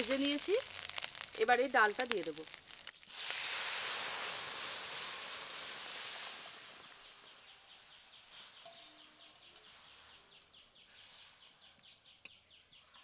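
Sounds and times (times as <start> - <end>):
food sizzling in hot oil: 0.0 - 11.5.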